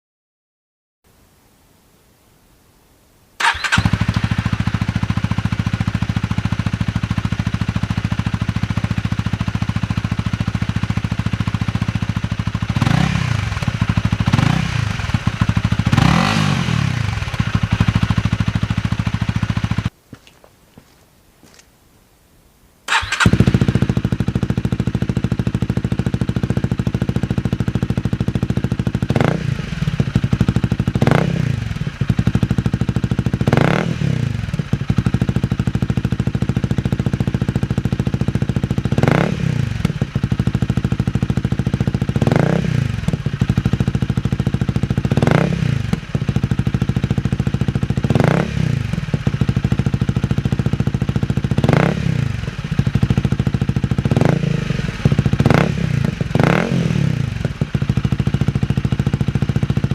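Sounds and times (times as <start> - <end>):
motorcycle engine idling: 3.4 - 20.2, 22.9 - 59.9.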